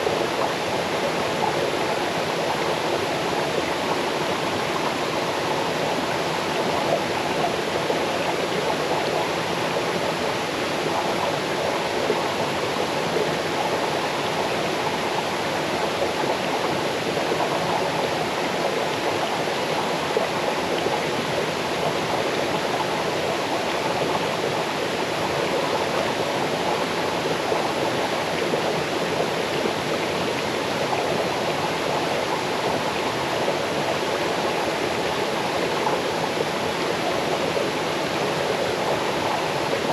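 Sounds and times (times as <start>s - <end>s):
stream cascading over stones: 0.0s - 39.9s.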